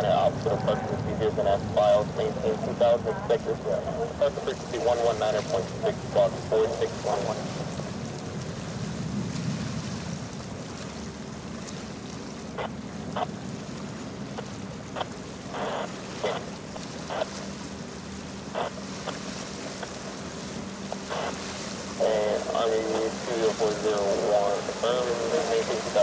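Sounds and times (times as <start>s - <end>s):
ship machinery humming: 0.0s - 26.0s
water noise: 0.0s - 26.0s
wind: 0.0s - 26.0s.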